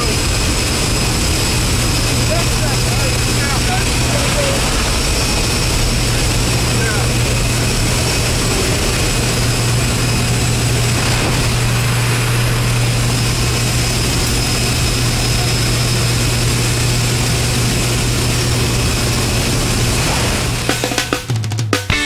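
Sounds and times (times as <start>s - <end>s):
wind rushing through doorway: 0.0s - 20.9s
propeller aircraft engine droning: 0.0s - 22.0s.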